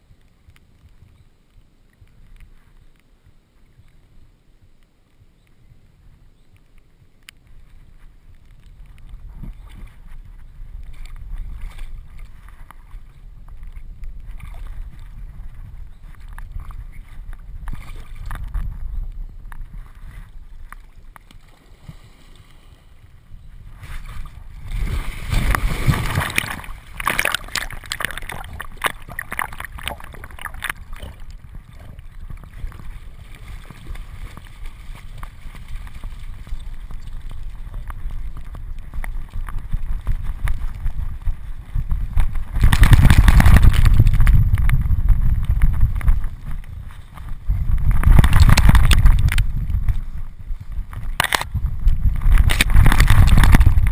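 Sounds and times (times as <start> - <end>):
crackling and splashing: 0.0 - 53.9
muffled water sloshing: 5.2 - 53.9.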